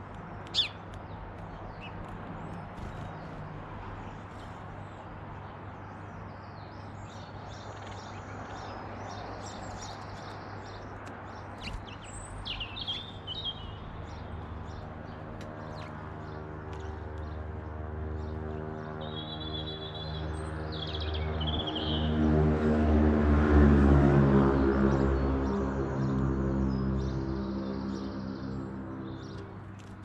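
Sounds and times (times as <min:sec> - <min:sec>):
small birds chirping and singing: 0:00.0 - 0:22.2, 0:24.7 - 0:30.0.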